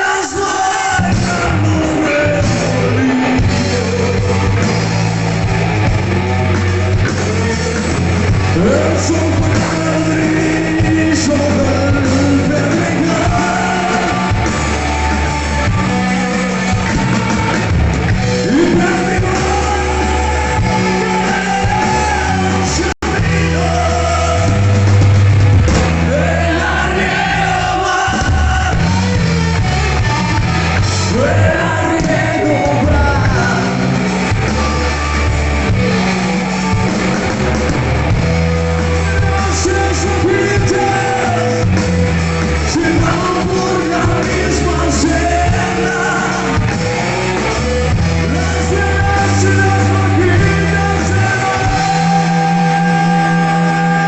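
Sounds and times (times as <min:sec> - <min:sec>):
person singing: 0:00.0 - 0:17.6, 0:18.2 - 0:37.0, 0:38.6 - 0:54.0
live rock band playing: 0:00.0 - 0:54.0.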